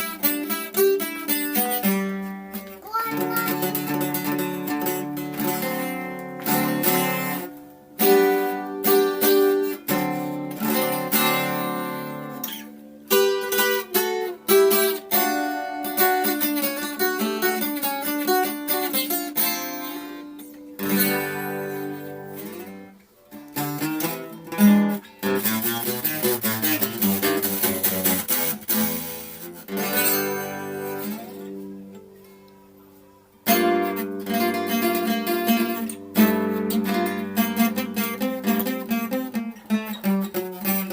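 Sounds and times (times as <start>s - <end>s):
acoustic guitar strummed chords: 0.0s - 40.9s
picked guitar notes: 0.0s - 40.9s.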